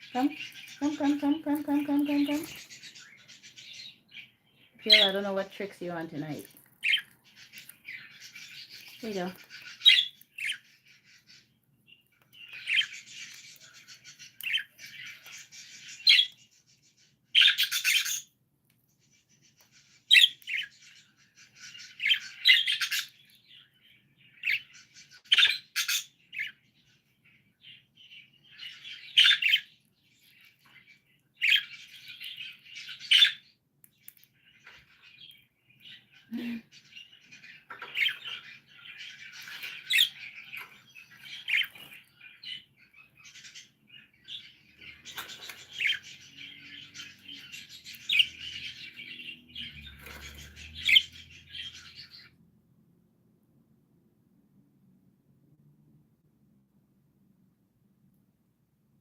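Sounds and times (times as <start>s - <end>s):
budgies chirping and chattering: 0.0s - 52.4s.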